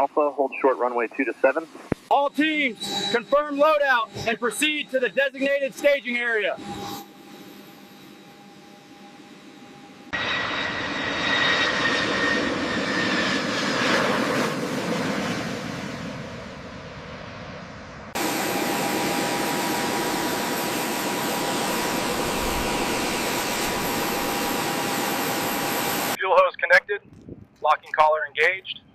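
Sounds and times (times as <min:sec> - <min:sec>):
jet engine rush with whine: 0:00.0 - 0:26.7.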